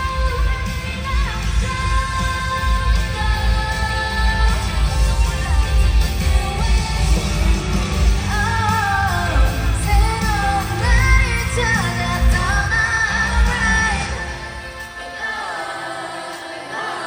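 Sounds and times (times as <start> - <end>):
pop song over sound system: 0.0 - 17.0
woman singing live: 0.0 - 17.0.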